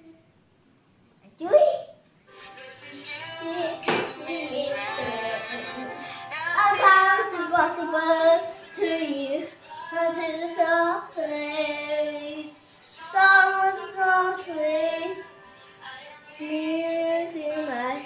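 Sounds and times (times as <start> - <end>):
girl singing: 2.6 - 18.0.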